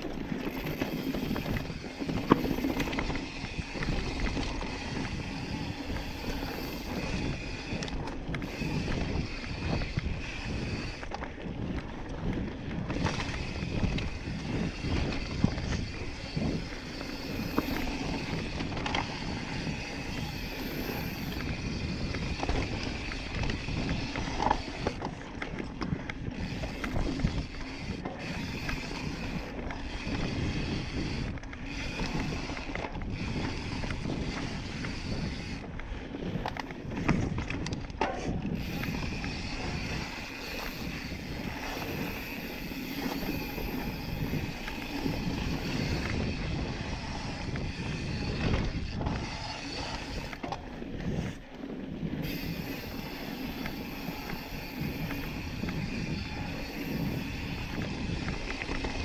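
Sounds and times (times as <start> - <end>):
bike frame rattle: 0.0 - 12.0, 12.7 - 35.7, 36.4 - 51.3, 52.1 - 59.0
tyres rolling on dirt: 0.0 - 59.0
wind rushing over microphone: 0.0 - 59.0.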